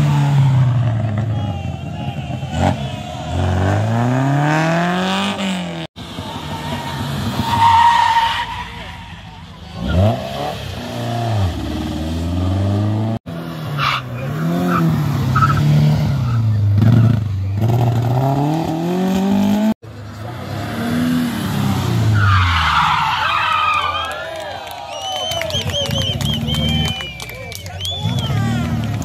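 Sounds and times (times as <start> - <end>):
rally car engines revving: 0.0 - 24.2, 24.9 - 29.0.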